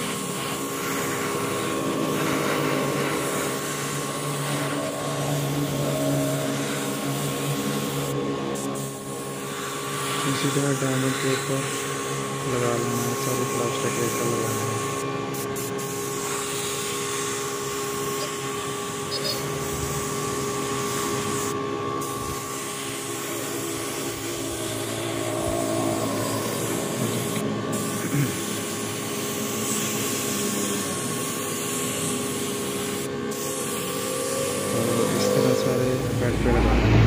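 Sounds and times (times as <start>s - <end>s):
spray gun hissing: 0.0s - 37.0s
steady machine hum: 0.0s - 37.0s.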